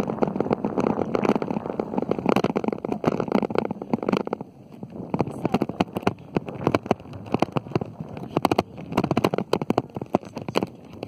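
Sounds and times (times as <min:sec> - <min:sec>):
fingers tapping on microphone: 0:00.0 - 0:11.0.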